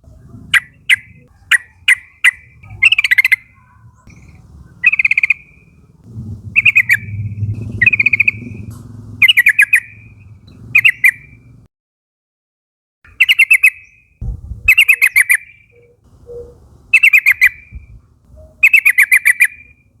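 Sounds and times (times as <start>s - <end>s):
bird song phrases: 0.0s - 11.6s, 13.1s - 20.0s.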